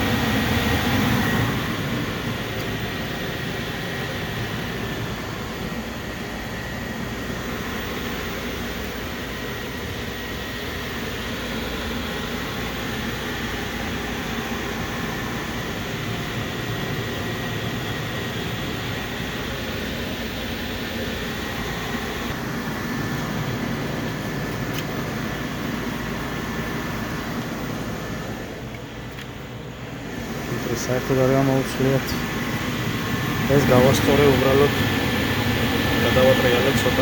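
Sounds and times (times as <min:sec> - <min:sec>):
furnace whooshing hum: 0:00.0 - 0:37.0.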